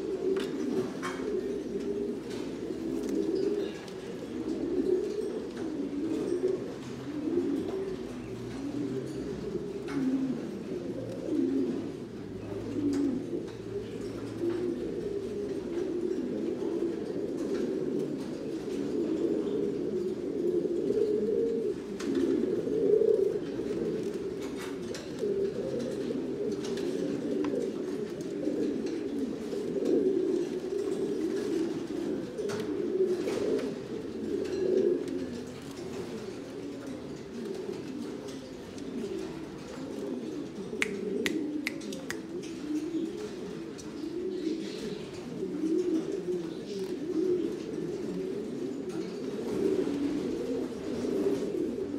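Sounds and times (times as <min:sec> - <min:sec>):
pigeons cooing: 0:00.0 - 0:51.9.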